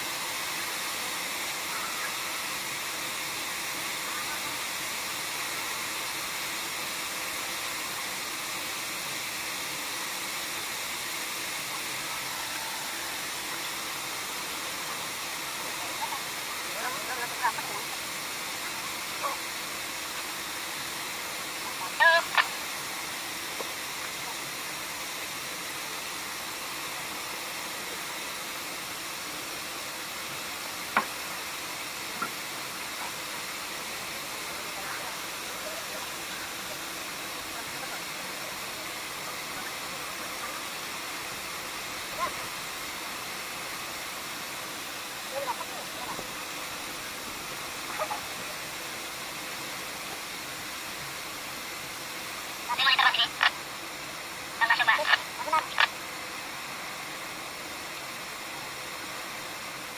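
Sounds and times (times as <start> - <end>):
water jetting with steady hiss: 0.0 - 59.9.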